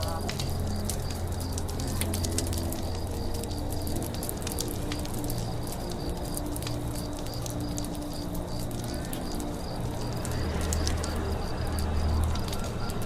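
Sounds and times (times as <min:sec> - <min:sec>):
campfire crackling and popping: 0:00.0 - 0:13.0
low rumble of fire: 0:00.0 - 0:13.0.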